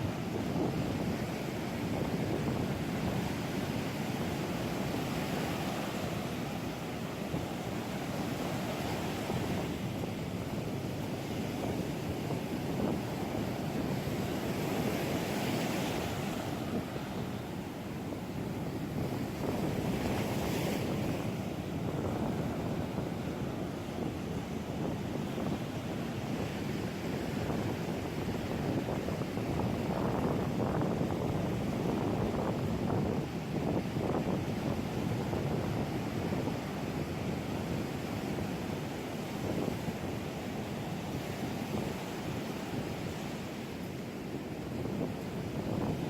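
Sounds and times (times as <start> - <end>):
ocean surf breaking on shore: 0.0 - 46.0
wind rumbling on microphone: 0.0 - 46.0.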